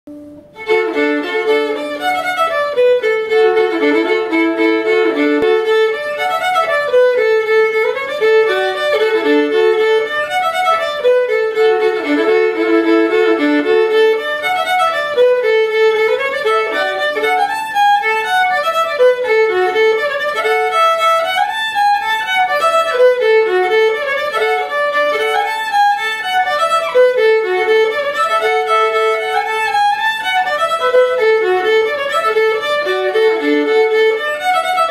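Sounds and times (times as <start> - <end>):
solo fiddle tune with drone: 0.1 - 34.9.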